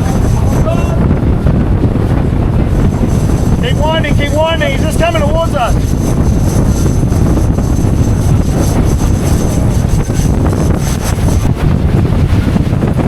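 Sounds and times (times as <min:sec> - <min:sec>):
motorboat engine: 0:00.0 - 0:13.0
wind buffeting microphone: 0:00.0 - 0:13.0.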